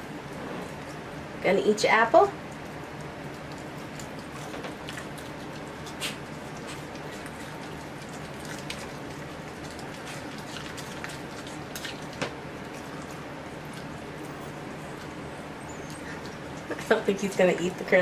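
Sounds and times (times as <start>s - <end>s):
steady low hum: 0.0s - 18.0s
dog licking and chewing: 2.4s - 17.8s.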